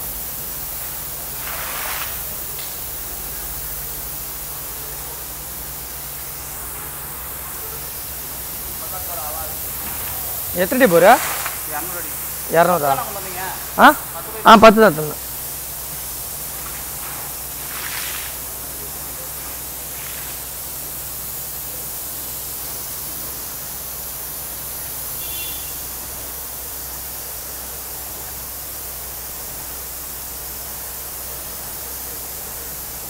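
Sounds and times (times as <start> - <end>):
air and water gushing hiss: 0.0 - 33.0
air compressor drone: 0.0 - 33.0.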